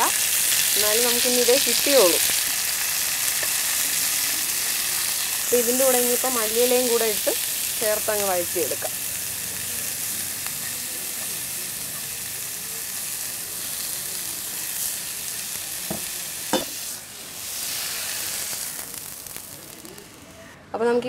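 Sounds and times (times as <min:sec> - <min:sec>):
leaves sizzling in a pan: 0:00.0 - 0:20.6.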